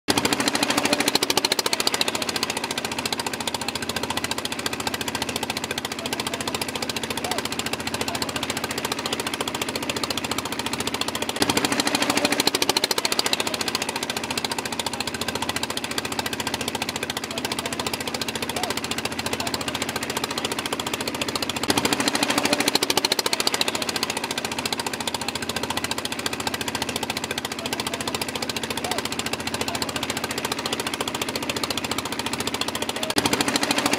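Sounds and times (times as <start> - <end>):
rapid mechanical rattle: 0.1 - 33.9.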